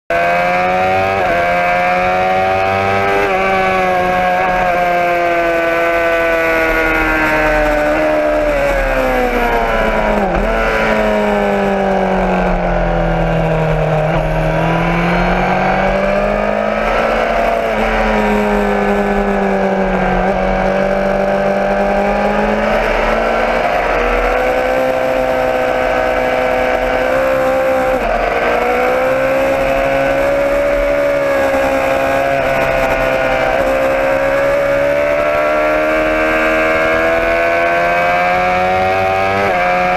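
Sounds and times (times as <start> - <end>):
motorcycle engine running: 0.2 - 39.9.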